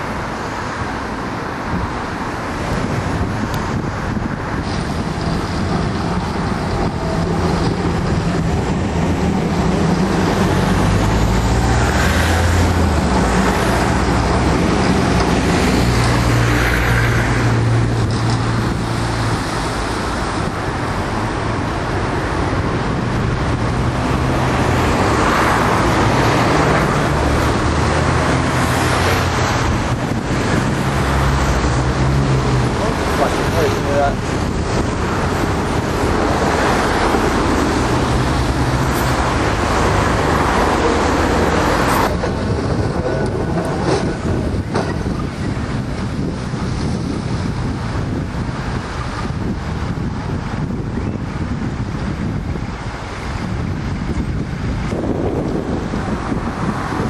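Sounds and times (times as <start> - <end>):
tram running: 0.0 - 57.0.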